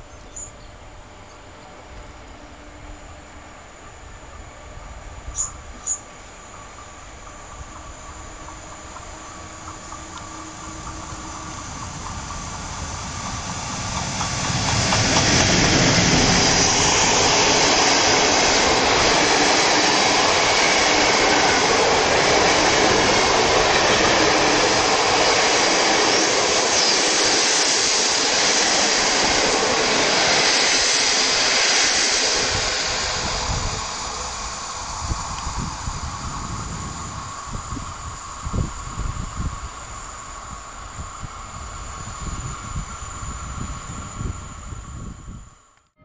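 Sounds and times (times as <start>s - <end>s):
passenger train passing at speed: 0.0s - 45.8s.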